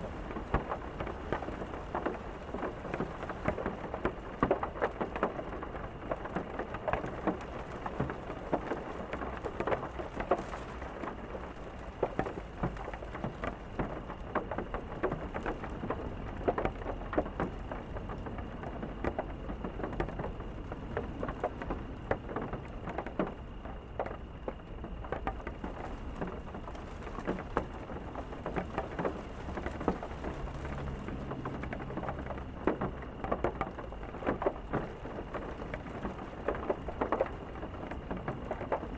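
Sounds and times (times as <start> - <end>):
raindrops clicking on hard surface: 0.0 - 38.9
steady rain hiss: 0.0 - 38.9.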